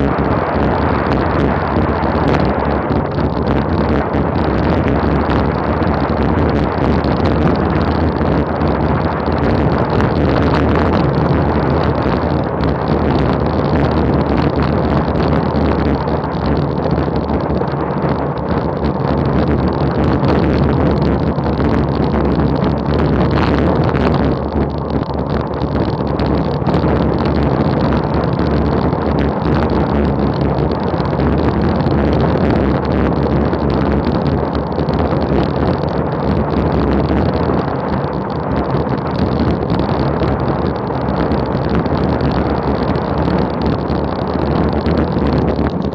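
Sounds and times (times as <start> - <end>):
tyres rumbling on road: 0.0 - 45.9
wind buffeting microphone: 0.0 - 45.9.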